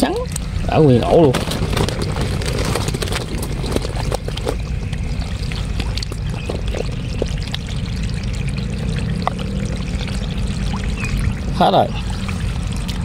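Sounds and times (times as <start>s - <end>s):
mud and water squelching: 0.0s - 13.0s
steady low rumble: 0.0s - 13.0s.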